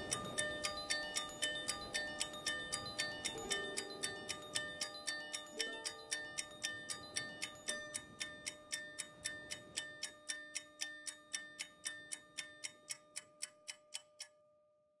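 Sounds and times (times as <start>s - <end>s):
steady ticking: 0.0s - 14.4s.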